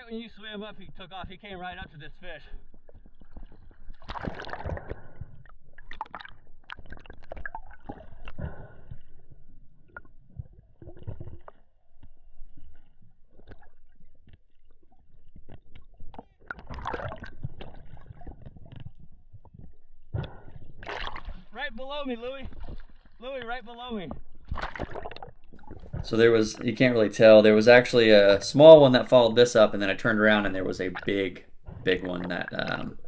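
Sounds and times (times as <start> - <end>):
water gurgling and sloshing: 0.0 - 33.0
bubbling and splashing: 2.5 - 33.0.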